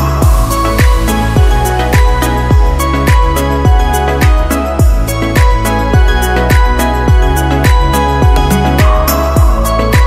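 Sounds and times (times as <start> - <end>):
music with deep beat: 0.0 - 10.0.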